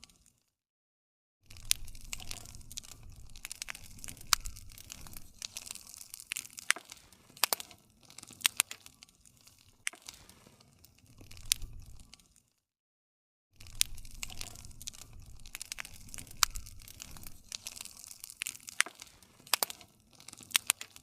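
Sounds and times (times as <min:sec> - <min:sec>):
low rumble of flames: 0:01.5 - 0:12.4, 0:13.6 - 0:21.0
campfire crackling and popping: 0:01.5 - 0:12.5, 0:13.6 - 0:21.0.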